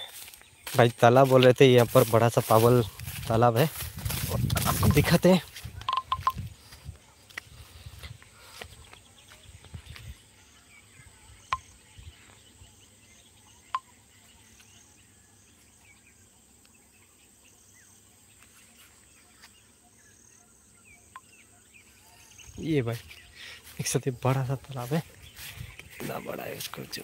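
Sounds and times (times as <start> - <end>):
insect chirps: 0.0 - 8.9, 9.6 - 27.0
bird chirps: 0.0 - 27.0.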